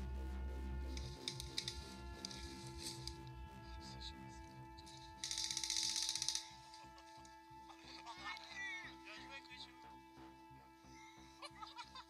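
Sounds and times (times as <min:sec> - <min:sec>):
faint music with steady beat: 0:00.0 - 0:12.0.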